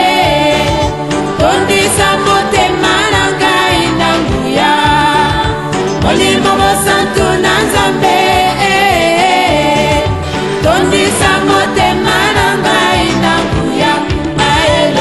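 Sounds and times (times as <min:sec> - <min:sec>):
band with steady beat: 0:00.0 - 0:15.0
voices singing gospel song: 0:00.0 - 0:15.0.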